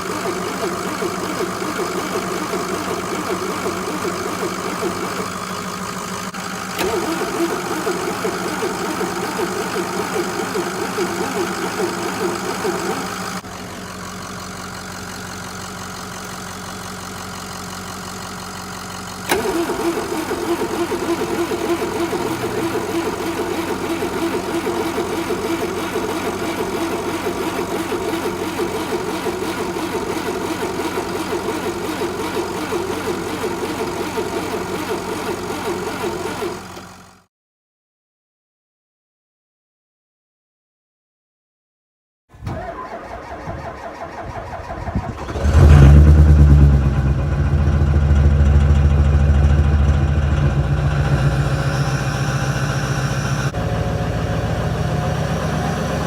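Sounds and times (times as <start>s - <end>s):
diesel engine idling: 0.0s - 37.2s, 45.0s - 56.0s.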